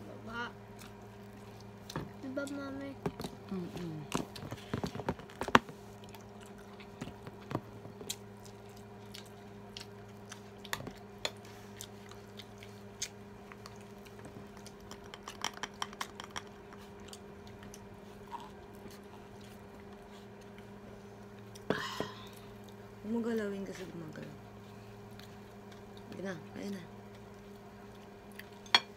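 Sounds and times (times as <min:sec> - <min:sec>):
steady low hum: 0:00.0 - 0:28.9
people chewing food: 0:00.3 - 0:28.9.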